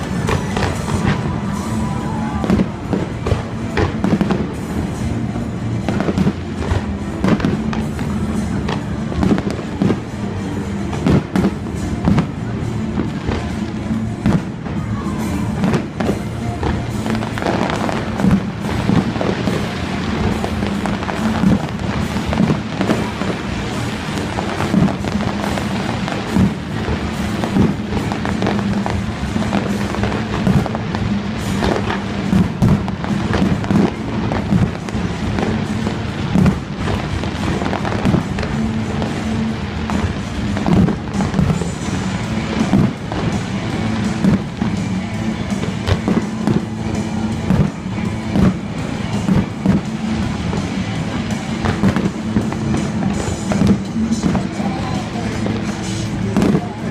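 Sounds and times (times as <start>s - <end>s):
fireworks bangs and pops: 0.0s - 56.9s
music playing: 0.0s - 56.9s.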